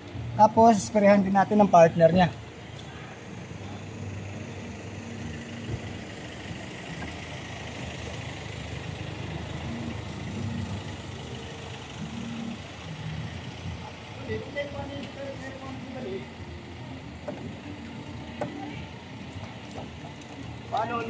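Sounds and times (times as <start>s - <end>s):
vehicle engines idling: 0.0s - 21.0s.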